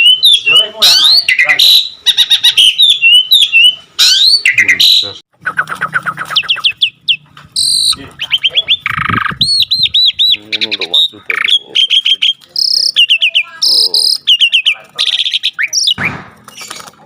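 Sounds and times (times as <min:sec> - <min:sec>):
bird singing varied song: 0:00.0 - 0:17.0.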